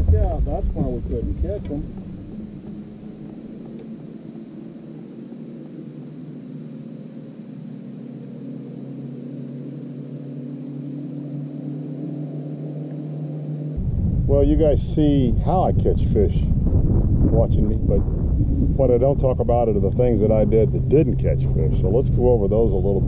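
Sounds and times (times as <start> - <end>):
faint high whine: 0.0 - 23.0
low engine drone: 0.0 - 23.0.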